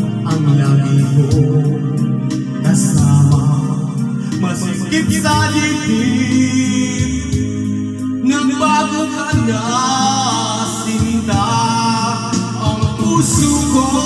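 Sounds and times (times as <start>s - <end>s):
instrumental backing music: 0.0s - 14.0s
man singing into a microphone: 0.0s - 14.0s.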